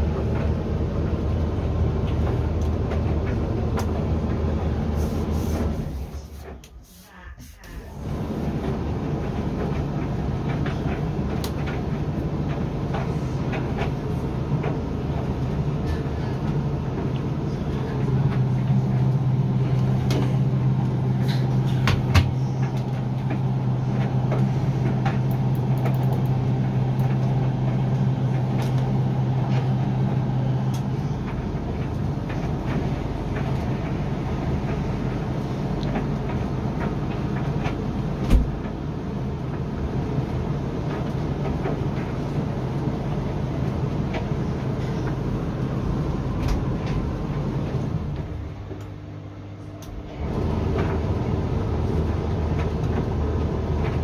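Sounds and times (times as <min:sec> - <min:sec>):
tumble dryer motor hum: 0:00.0 - 0:54.0.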